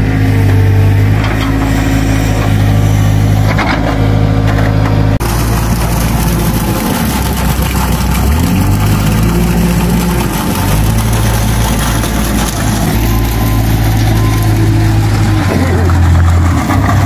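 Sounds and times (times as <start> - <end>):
machine engine running: 0.0 - 17.0.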